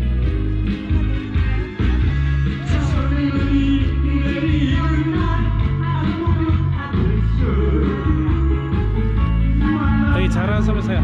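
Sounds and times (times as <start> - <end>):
backing track with heavy bass: 0.0 - 11.0
person singing into microphone: 0.9 - 11.0.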